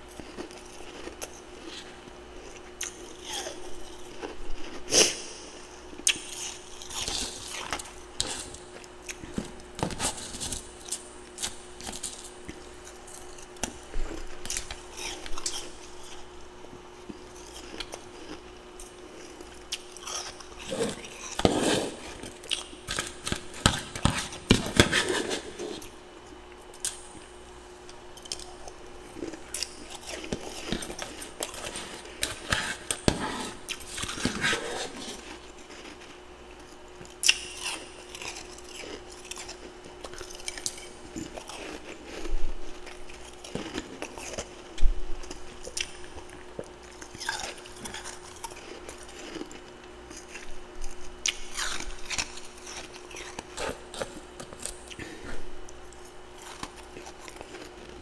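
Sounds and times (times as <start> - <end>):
crunching and chewing frost: 0.0 - 58.0.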